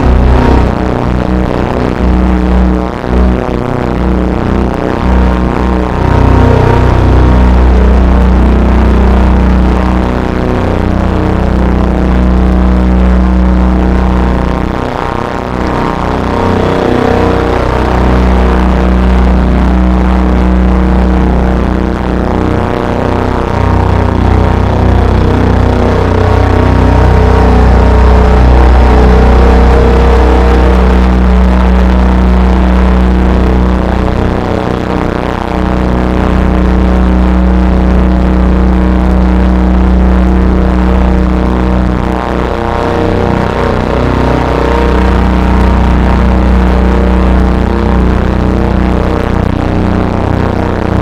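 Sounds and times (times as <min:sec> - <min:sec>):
drone music: 0:00.0 - 0:51.0.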